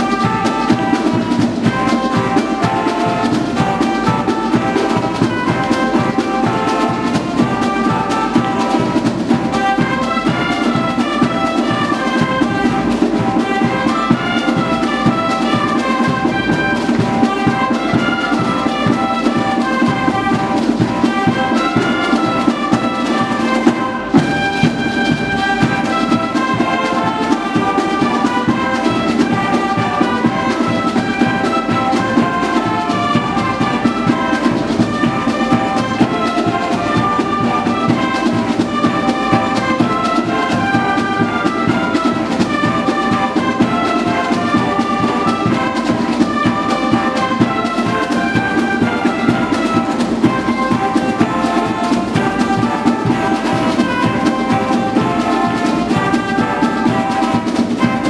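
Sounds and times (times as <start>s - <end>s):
reedy horn band melody: 0.0s - 58.0s
steady drum beat: 0.0s - 58.0s.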